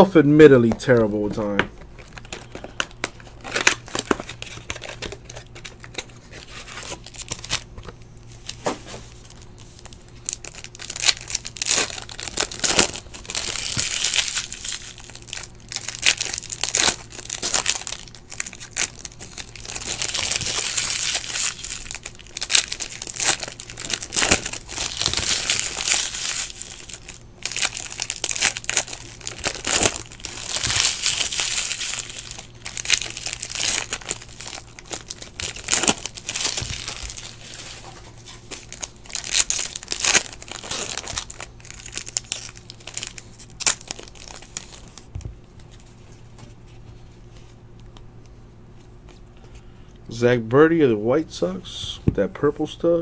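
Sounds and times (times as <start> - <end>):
foil wrappers crinkling and tearing: 0.6 - 46.2.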